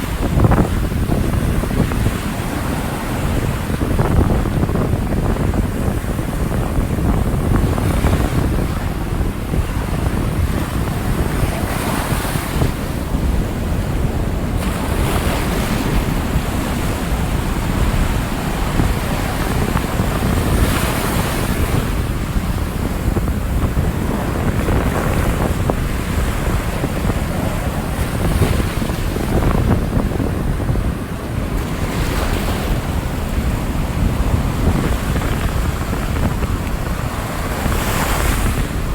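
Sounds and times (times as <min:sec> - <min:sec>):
heavy waves breaking: 0:00.0 - 0:38.9
wind buffeting microphone: 0:00.0 - 0:38.9.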